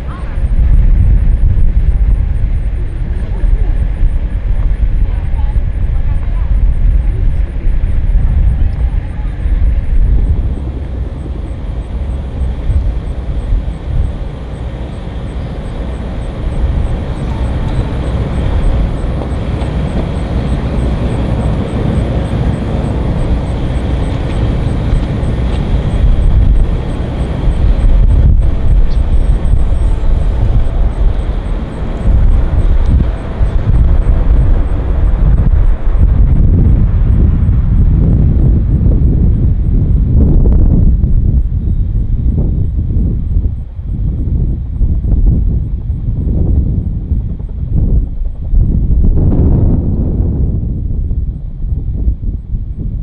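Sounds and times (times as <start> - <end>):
jet engines rumbling: 0.0 - 51.8.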